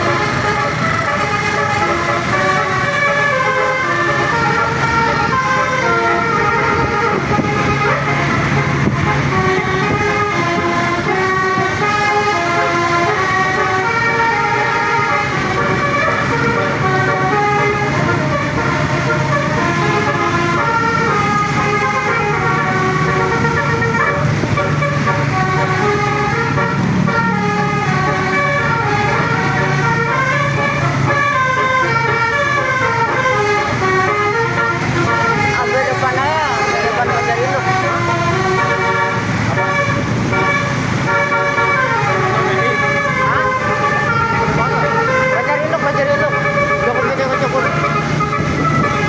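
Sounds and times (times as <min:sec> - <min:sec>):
multi-tone bus horn melody: 0:00.0 - 0:49.0.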